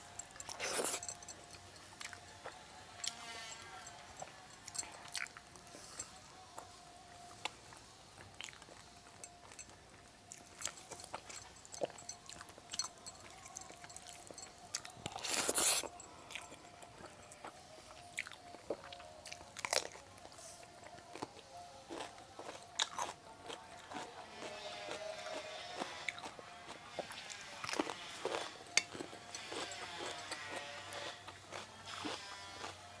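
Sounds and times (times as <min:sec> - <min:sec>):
chewing and crunchy bites: 0:00.2 - 0:06.7, 0:08.2 - 0:32.8.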